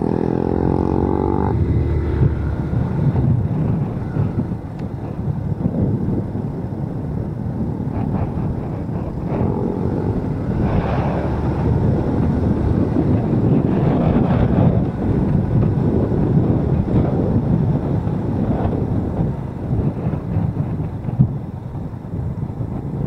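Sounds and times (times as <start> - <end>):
motorcycle engine: 0.0 - 23.0
road noise: 0.0 - 23.0
wind rushing over microphone: 0.0 - 23.0.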